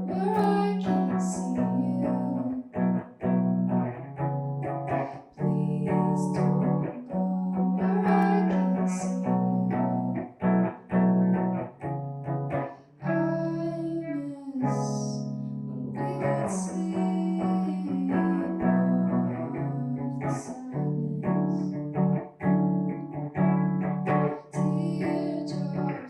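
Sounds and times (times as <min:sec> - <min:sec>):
guitar accompaniment: 0:00.0 - 0:26.0.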